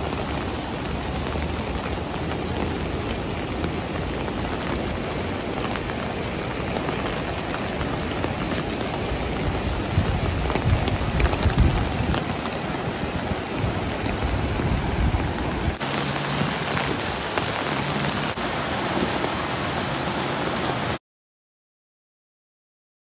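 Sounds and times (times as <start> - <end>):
stream rushing over rocks: 0.0 - 21.0
water crashing over spillway: 0.0 - 21.0.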